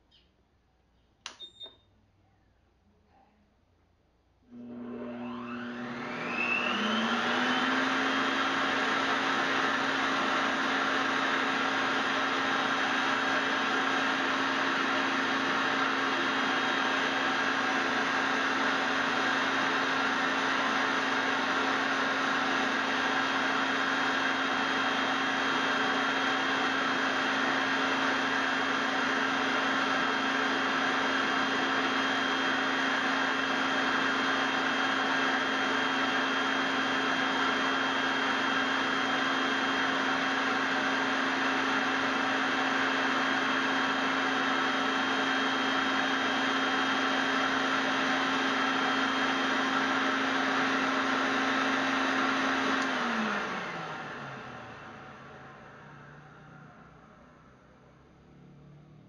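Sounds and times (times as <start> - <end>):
vacuum cleaner motor whine: 4.5 - 59.0.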